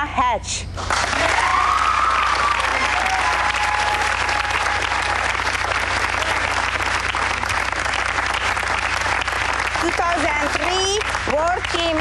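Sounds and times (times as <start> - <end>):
people clapping: 0.8 - 12.0.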